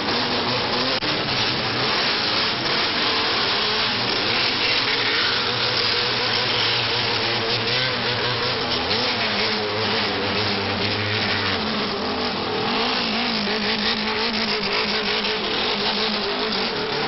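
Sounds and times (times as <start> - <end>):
engines revving: 0.0 - 17.0.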